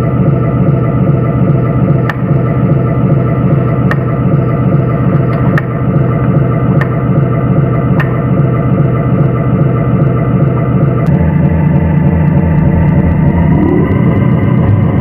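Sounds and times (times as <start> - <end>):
engine idle through a speaker: 0.0 - 15.0.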